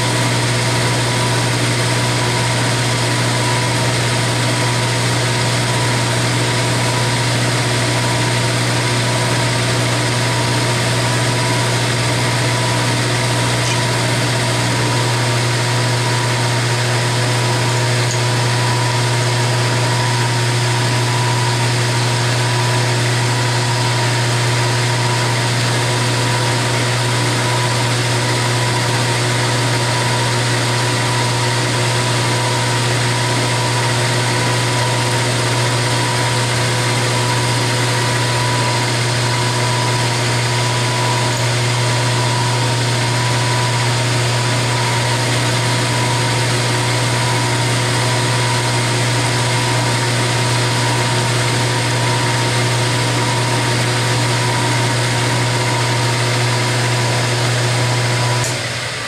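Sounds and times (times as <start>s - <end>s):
milling machine cutting aluminum: 0.0s - 59.0s.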